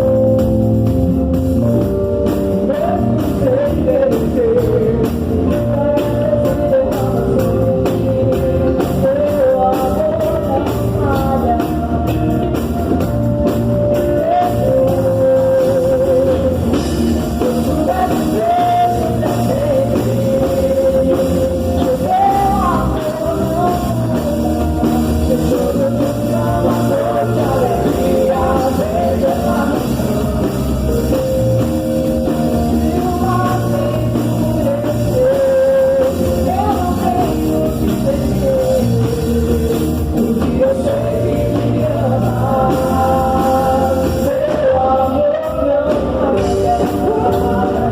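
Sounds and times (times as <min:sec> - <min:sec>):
low bass notes: 0:00.0 - 0:47.9
sung melody: 0:00.0 - 0:47.9
worship band playing: 0:00.0 - 0:47.9.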